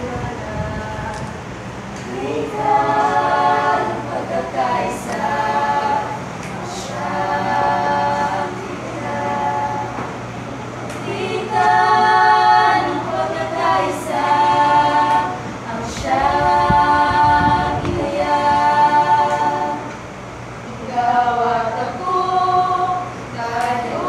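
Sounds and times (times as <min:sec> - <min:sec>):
group singing in harmony: 0:00.0 - 0:24.0.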